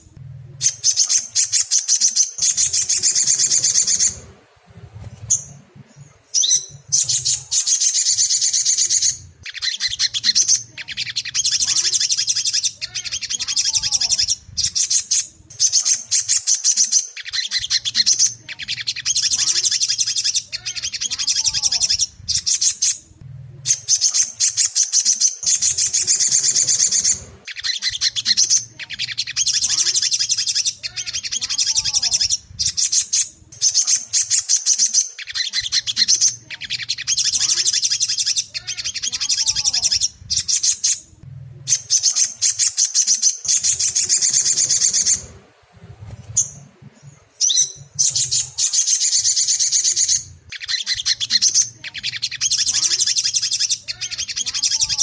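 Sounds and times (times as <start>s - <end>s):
bird twittering: 0.0s - 55.0s.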